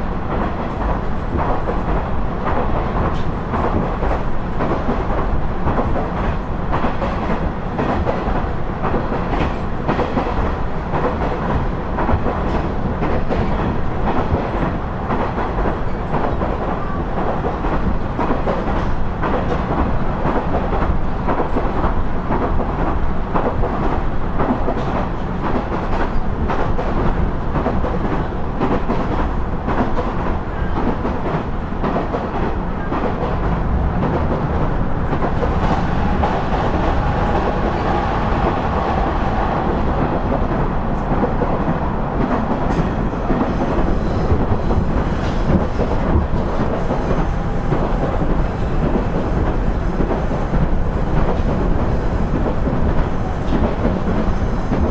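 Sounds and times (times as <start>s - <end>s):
railcar engine rumble: 0.0s - 54.9s.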